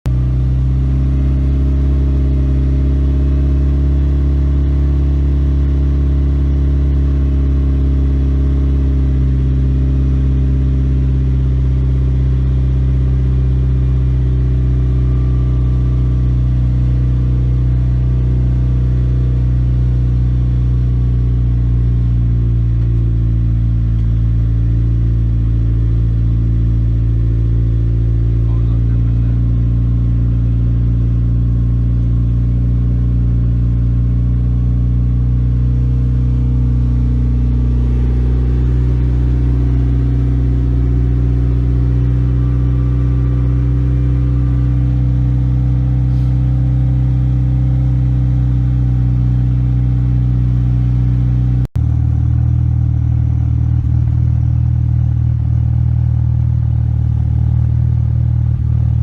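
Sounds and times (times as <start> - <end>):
car engine exhaust note: 0.1 - 59.0.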